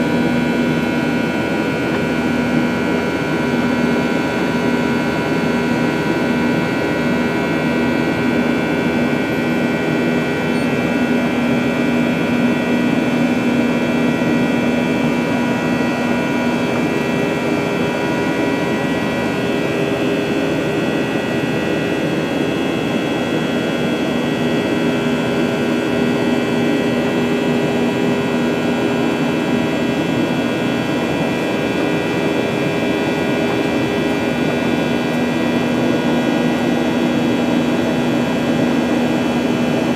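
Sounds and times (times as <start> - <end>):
jet engine drone in cabin: 0.0 - 39.9
steady whining tones: 0.0 - 39.9.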